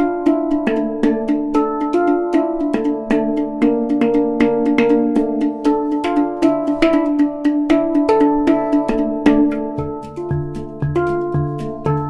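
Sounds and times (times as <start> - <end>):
music with chords and quick beat: 0.0 - 12.0.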